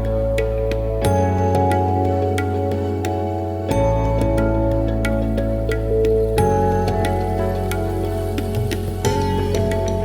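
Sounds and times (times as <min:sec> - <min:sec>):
ambient music with low drone: 0:00.0 - 0:10.0
light ticking percussion: 0:00.0 - 0:10.0.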